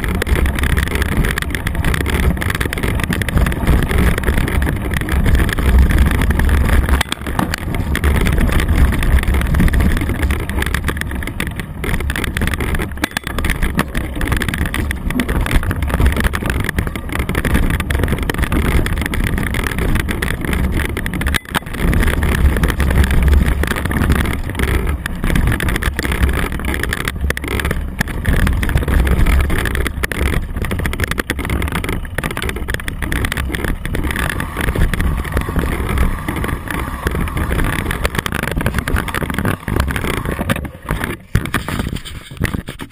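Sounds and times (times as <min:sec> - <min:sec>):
bike knocks and rattles: 0:00.0 - 0:42.9
bike tyres rumbling on dirt trail: 0:00.0 - 0:42.9.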